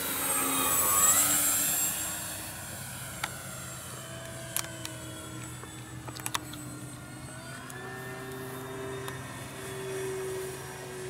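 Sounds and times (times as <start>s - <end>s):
model plane propellers whining: 0.0s - 11.0s.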